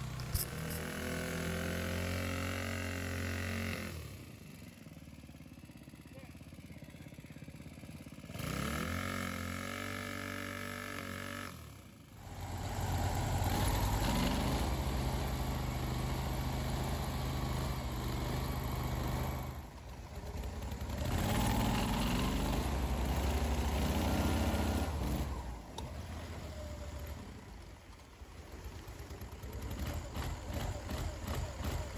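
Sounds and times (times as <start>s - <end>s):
boat motor revving: 0.0s - 4.5s, 8.2s - 27.2s, 29.0s - 31.9s.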